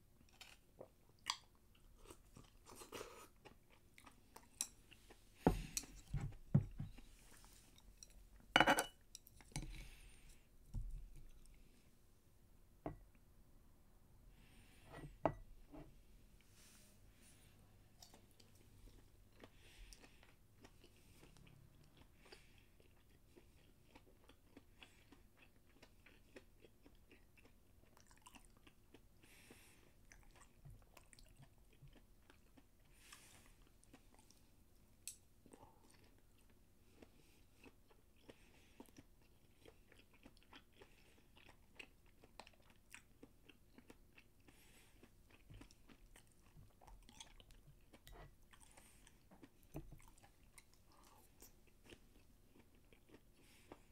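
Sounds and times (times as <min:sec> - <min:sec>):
person chewing: 0:00.2 - 0:10.4, 0:18.0 - 0:34.4, 0:35.1 - 0:53.9.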